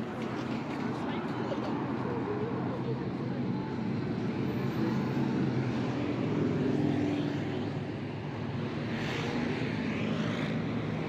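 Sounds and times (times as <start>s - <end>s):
cars and motorcycles driving past: 1.8s - 11.0s.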